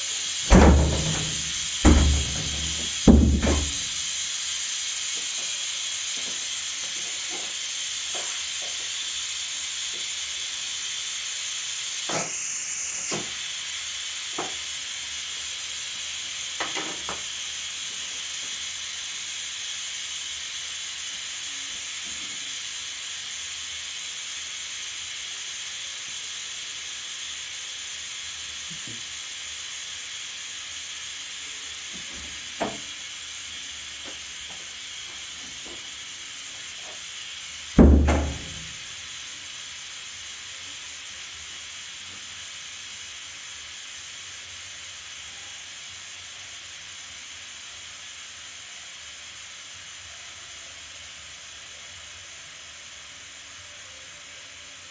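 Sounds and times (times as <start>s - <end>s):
pressure cooker steam hissing: 0.0s - 54.9s.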